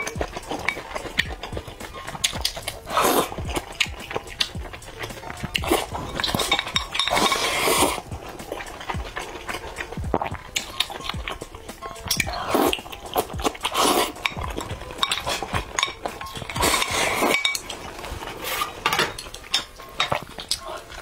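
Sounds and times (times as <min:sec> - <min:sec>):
chopsticks clicking: 0:00.0 - 0:07.5, 0:08.4 - 0:17.9, 0:19.2 - 0:21.0
wet chewing: 0:00.0 - 0:21.0.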